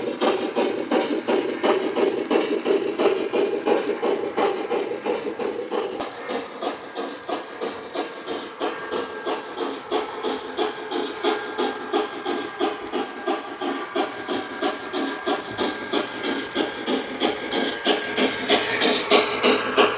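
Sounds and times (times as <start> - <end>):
model steam locomotive chuffing: 0.0 - 19.9.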